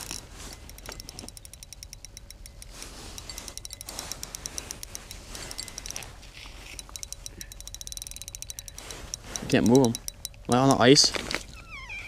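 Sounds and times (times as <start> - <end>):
spinning reel clicking rapidly: 0.0 - 6.0, 6.8 - 10.7.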